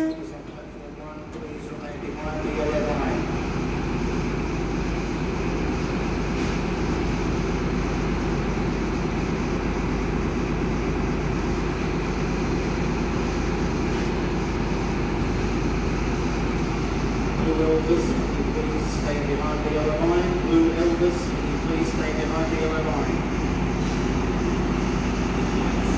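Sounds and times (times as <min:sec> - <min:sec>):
train diesel engine running: 0:00.0 - 0:25.9.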